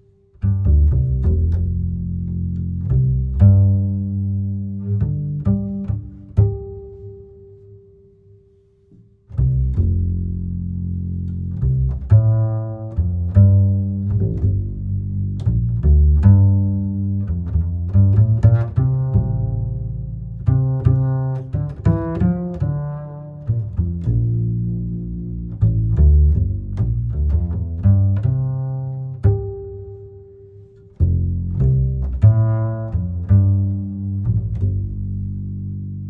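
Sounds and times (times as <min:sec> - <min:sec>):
plucked bass line: 0:00.0 - 0:08.1, 0:09.2 - 0:36.0.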